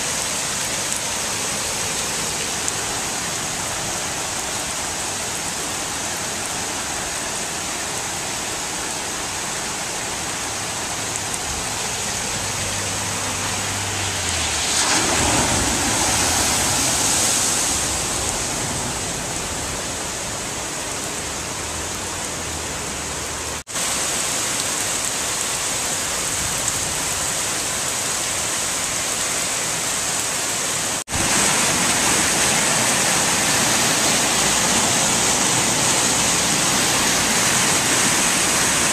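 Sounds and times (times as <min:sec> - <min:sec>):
heavy rain hiss: 0:00.0 - 0:38.9.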